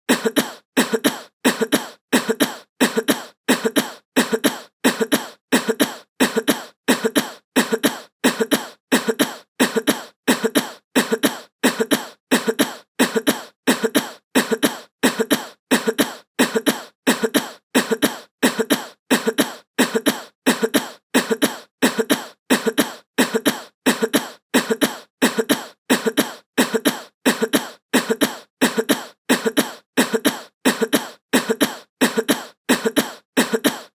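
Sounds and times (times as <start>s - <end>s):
looped cough: 0.0s - 33.9s.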